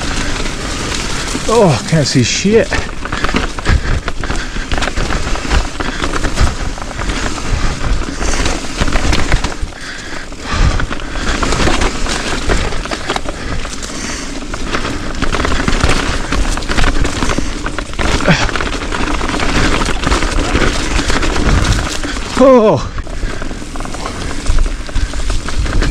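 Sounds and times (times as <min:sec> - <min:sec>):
clattering ride on rocky trail: 0:00.0 - 0:25.9
wind buffeting camera: 0:00.0 - 0:25.9.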